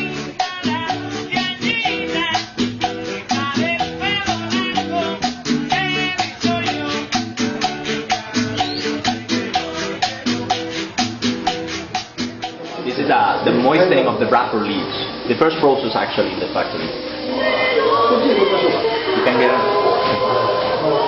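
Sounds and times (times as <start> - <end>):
latin music with shakers: 0.0 - 21.0.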